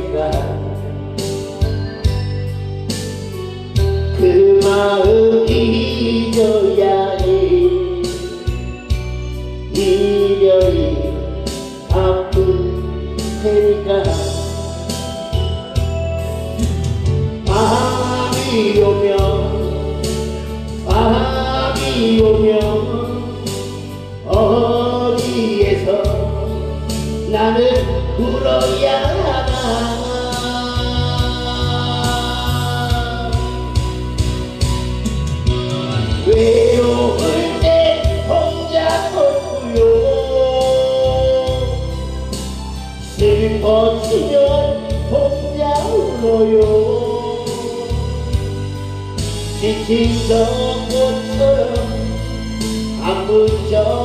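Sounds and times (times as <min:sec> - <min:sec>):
man singing a slow ballad: 0:00.0 - 0:35.1, 0:35.7 - 0:54.0
accompaniment with bass beat: 0:00.0 - 0:54.0.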